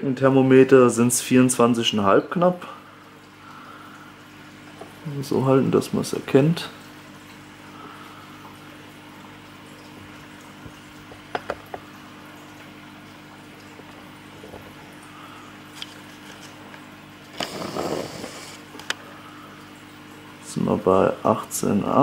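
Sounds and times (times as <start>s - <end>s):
aquarium equipment hum: 0.0s - 22.0s
water trickling: 0.1s - 22.0s.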